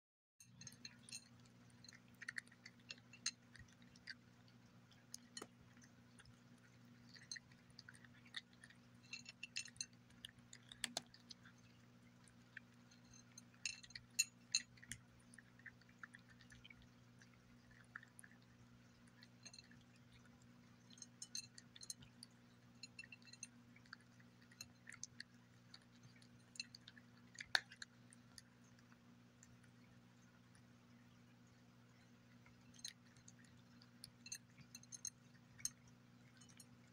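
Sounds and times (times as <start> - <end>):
kibble clicking on glass: 0.4 - 29.8, 32.4 - 36.9
cat crunching kibble: 0.5 - 36.9.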